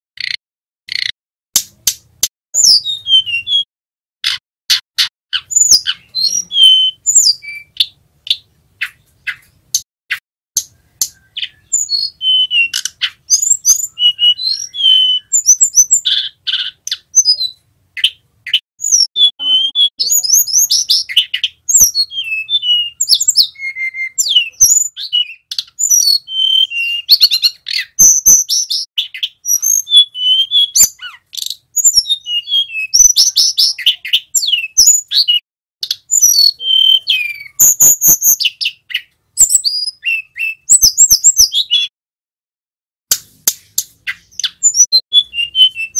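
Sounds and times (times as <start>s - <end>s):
bird singing whistles and trills: 2.6s - 3.7s, 5.4s - 9.8s, 10.6s - 41.9s, 44.1s - 45.9s.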